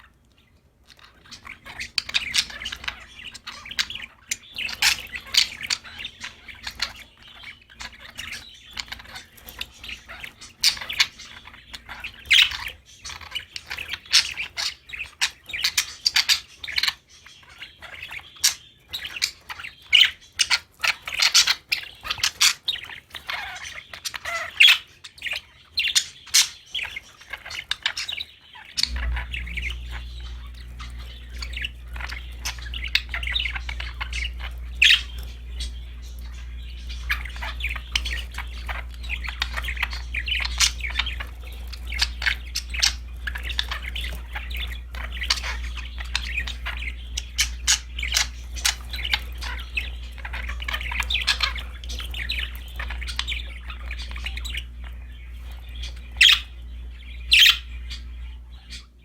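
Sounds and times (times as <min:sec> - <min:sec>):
budgerigars chirping and squawking: 0:00.0 - 0:59.0
steady low hum: 0:00.0 - 0:59.0.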